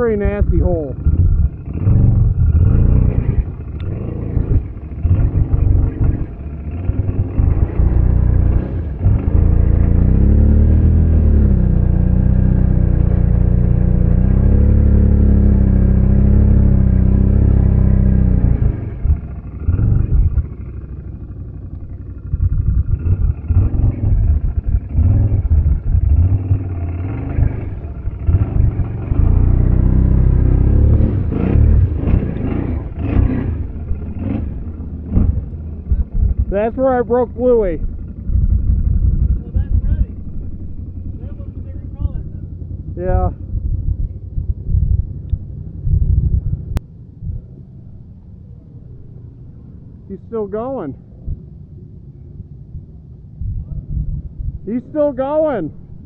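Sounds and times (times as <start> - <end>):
atv engine revving: 0.0 - 47.6.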